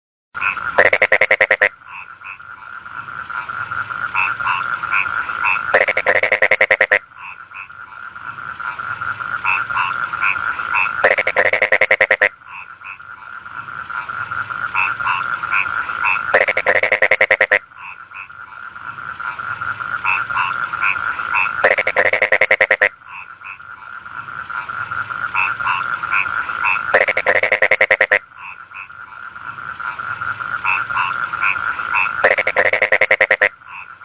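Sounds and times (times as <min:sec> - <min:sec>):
frog rapid croaks: 0:00.4 - 0:34.0
single frog croaks: 0:00.4 - 0:34.0.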